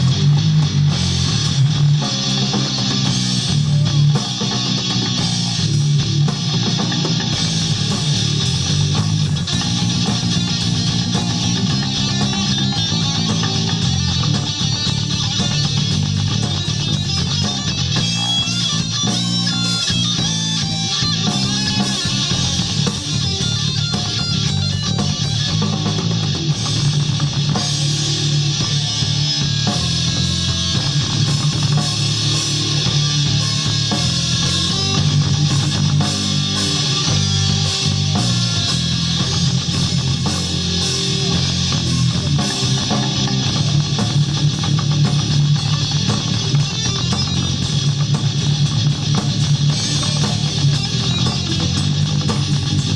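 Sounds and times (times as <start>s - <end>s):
bass guitar: 0.0s - 52.9s
distorted electric guitar: 0.0s - 52.9s
drum kit: 0.0s - 52.9s.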